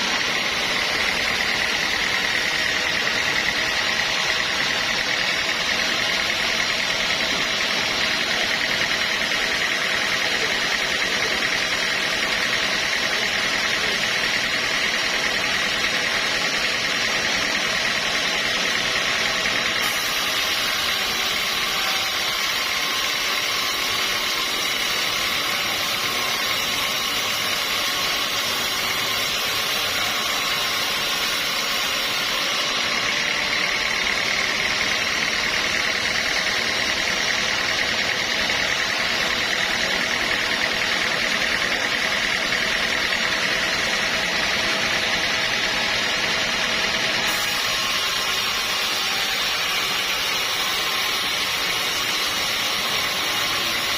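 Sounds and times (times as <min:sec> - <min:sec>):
sawmill machinery running: 0:00.0 - 0:53.9.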